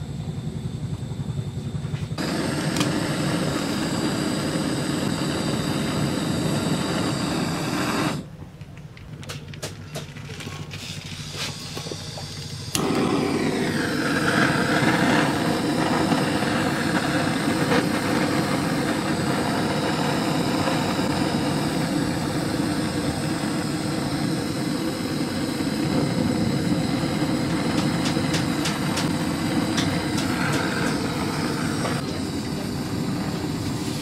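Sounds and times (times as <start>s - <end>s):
gas torch hissing roar: 0.0s - 8.3s, 10.6s - 34.0s
torch igniter clicks: 2.1s - 10.5s, 11.2s - 34.0s.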